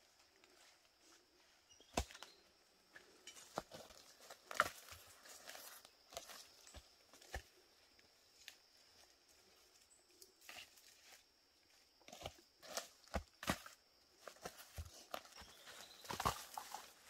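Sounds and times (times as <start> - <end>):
bamboo shoots rustling and knocking: 0.2 - 9.1, 9.7 - 17.0.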